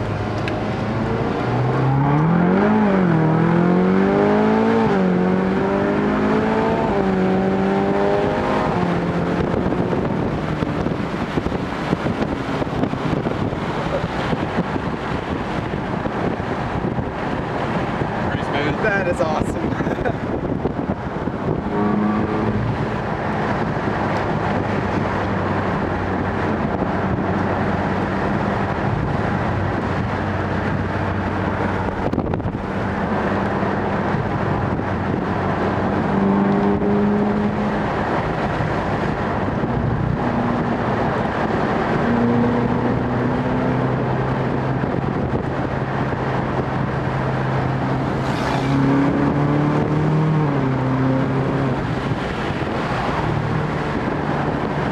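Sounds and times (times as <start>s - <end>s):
car engine from inside cabin: 0.0s - 54.9s
road and tyre noise: 0.0s - 54.9s.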